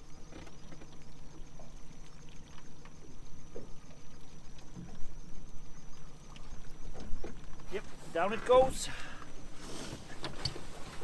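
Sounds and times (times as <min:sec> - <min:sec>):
water splashing against boat: 0:00.0 - 0:11.0.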